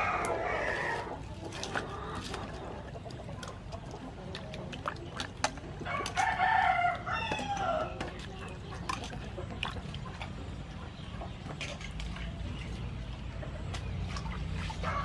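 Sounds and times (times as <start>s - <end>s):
water splashing in bowl: 0.2s - 10.8s, 13.6s - 15.0s.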